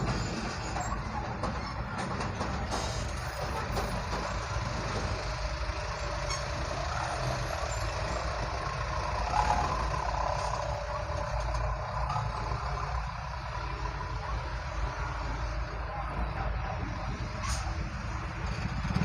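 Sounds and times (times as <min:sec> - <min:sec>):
road and traffic noise: 0:00.0 - 0:19.0
truck engine running: 0:00.0 - 0:19.0.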